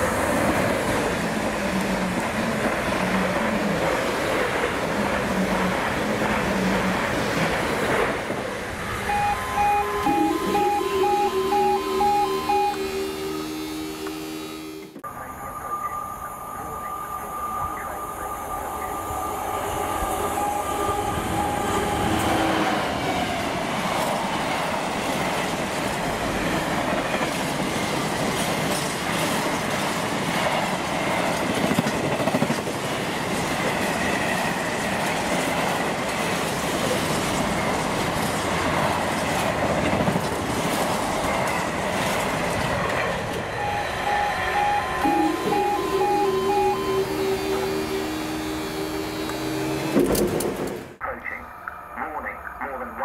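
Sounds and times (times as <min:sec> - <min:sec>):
diesel locomotive passing: 0:00.0 - 0:53.0.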